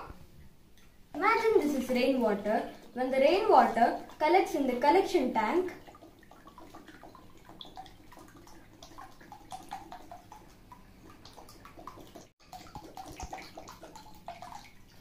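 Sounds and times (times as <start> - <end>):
water trickling and splashing into tub: 0.7 - 15.0.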